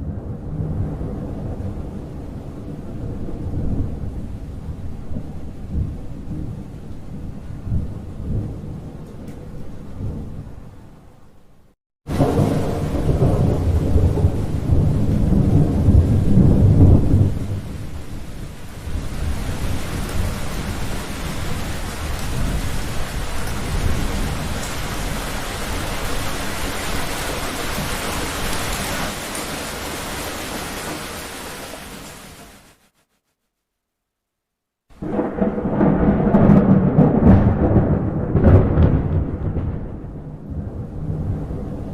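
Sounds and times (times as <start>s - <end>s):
thunder rumbling: 0.0s - 11.1s, 12.1s - 32.2s, 35.0s - 41.9s
steady rain: 0.0s - 33.2s, 34.9s - 41.9s.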